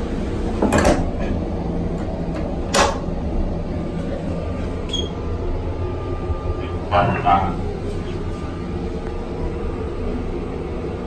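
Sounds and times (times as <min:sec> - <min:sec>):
rail car rumbling: 0:00.0 - 0:11.0.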